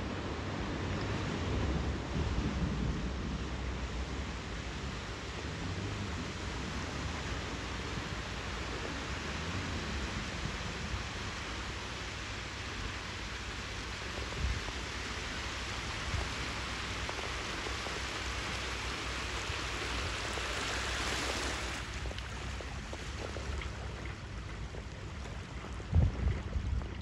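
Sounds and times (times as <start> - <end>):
water rushing and splashing: 0.0 - 27.0.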